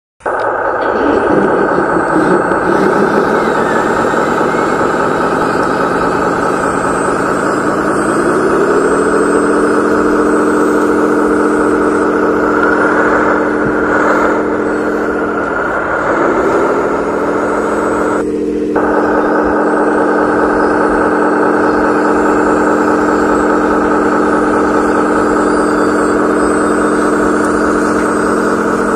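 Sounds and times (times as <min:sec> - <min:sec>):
toy truck motor drone: 0:00.2 - 0:28.9.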